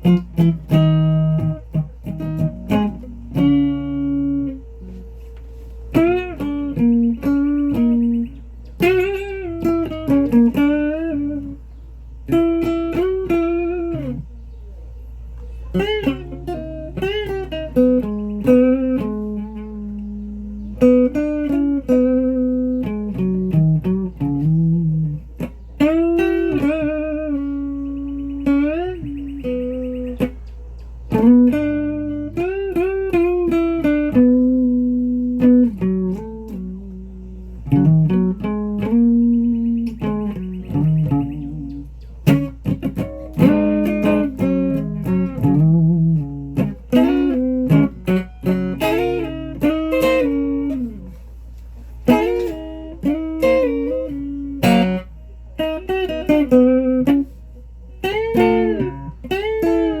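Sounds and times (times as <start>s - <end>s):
guitar plucked notes with bends: 0.0s - 14.5s, 15.1s - 60.0s.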